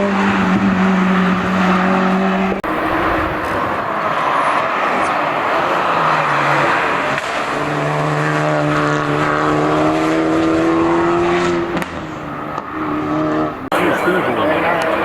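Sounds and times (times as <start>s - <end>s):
race car engine revving high: 0.0s - 15.0s.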